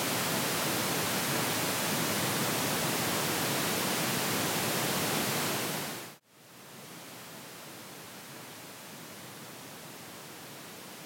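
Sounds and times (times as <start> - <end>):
pink noise hiss: 0.0 - 11.0.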